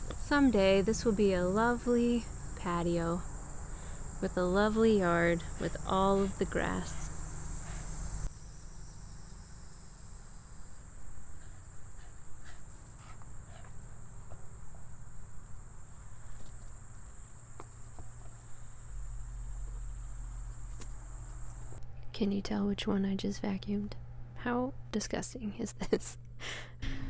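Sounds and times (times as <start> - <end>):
crickets chirping: 0.0 - 21.8
low hum: 0.0 - 25.0.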